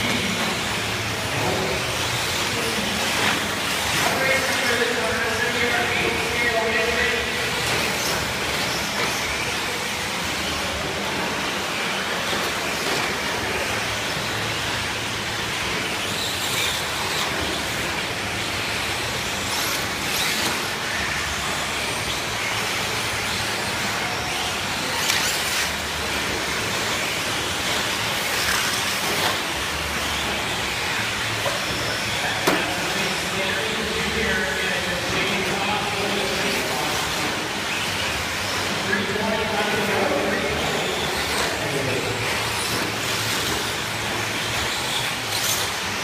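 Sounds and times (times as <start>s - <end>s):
rc truck motors and tyres: 0.0s - 46.0s.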